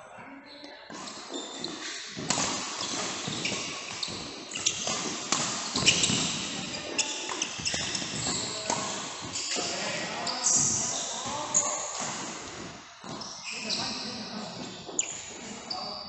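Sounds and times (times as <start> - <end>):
shoes squeaking on court floor: 0.9 - 16.0.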